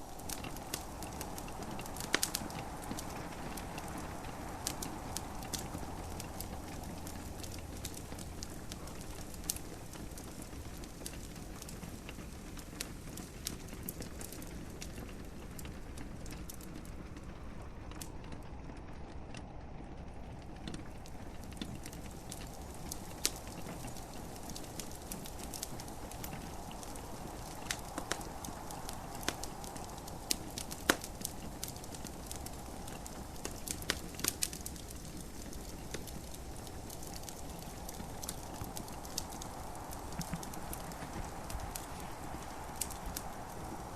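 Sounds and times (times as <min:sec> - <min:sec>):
rain hissing: 0:00.0 - 0:43.9
wood fire crackling and popping: 0:00.0 - 0:43.9.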